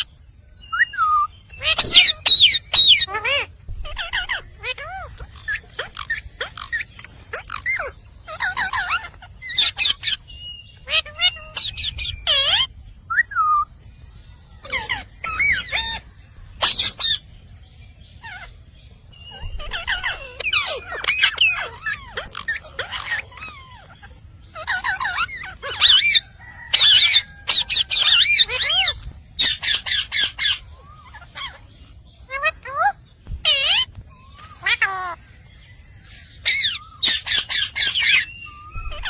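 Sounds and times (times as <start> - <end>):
parrot screeching and chirping: 0.7 - 13.7, 14.5 - 17.3, 18.2 - 39.0.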